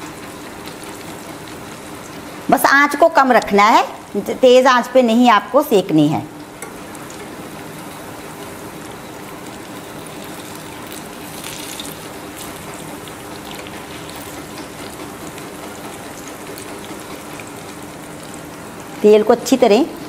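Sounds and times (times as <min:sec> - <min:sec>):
frying in hot oil sizzle: 0:00.0 - 0:20.0.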